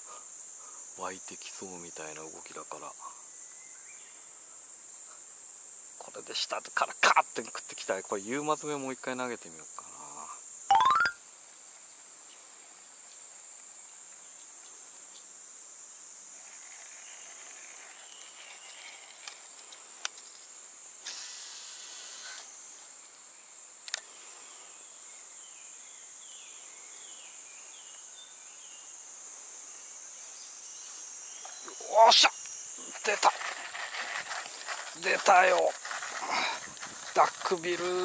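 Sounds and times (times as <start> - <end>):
insects chorus: 0.0 - 10.7, 11.3 - 38.0.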